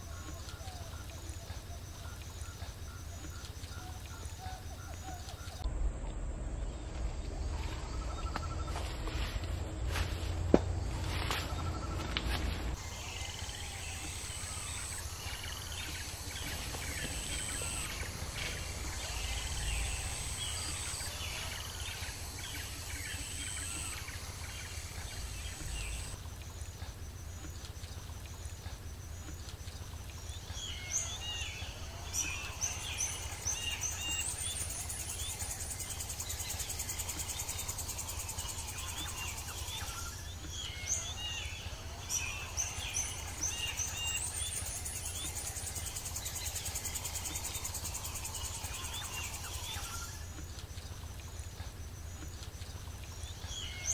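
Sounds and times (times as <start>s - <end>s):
birds chirping: 0.0s - 53.9s
high insect drone: 0.0s - 53.9s.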